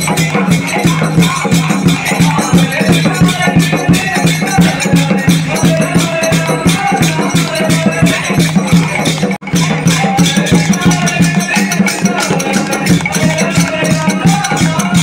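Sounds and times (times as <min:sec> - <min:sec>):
drum beat: 0:00.0 - 0:15.0
hand cymbals struck rhythmically: 0:00.0 - 0:15.0
voices chanting: 0:00.0 - 0:15.0.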